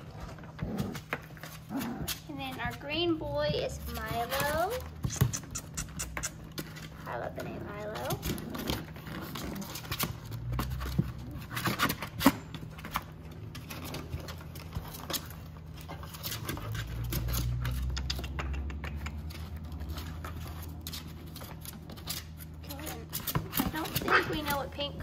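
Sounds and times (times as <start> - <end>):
puppy claws clicking on plastic: 3.8 - 25.0.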